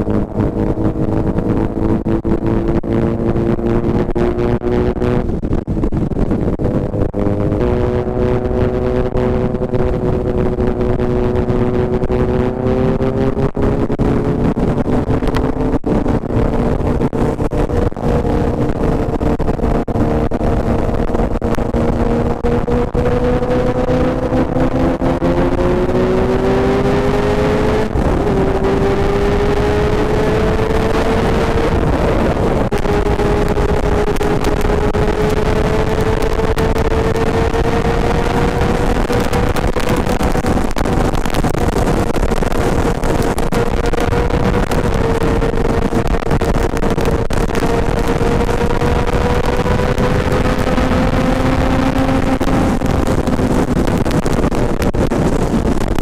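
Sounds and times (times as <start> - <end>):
motorcycle engine at speed: 0.0 - 56.0
wind rushing: 0.0 - 56.0.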